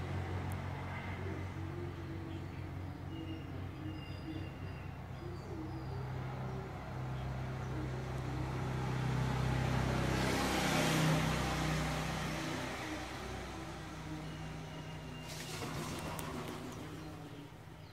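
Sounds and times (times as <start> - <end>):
vehicle passing by: 0.0 - 17.9.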